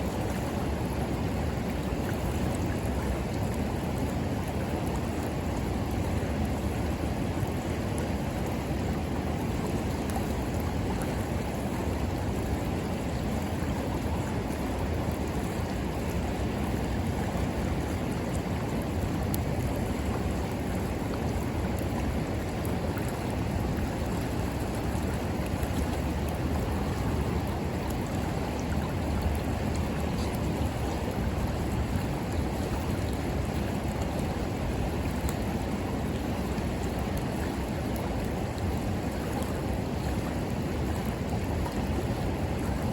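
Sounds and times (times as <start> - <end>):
river flowing: 0.0 - 42.9.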